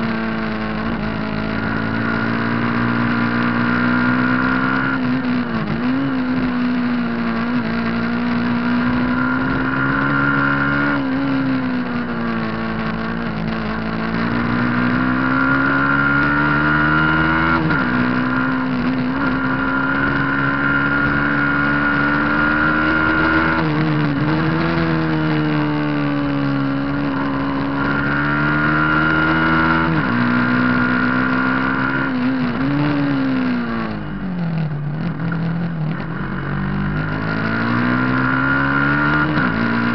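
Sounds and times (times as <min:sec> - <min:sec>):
racing motorbike engine at high revs: 0:00.0 - 0:39.9.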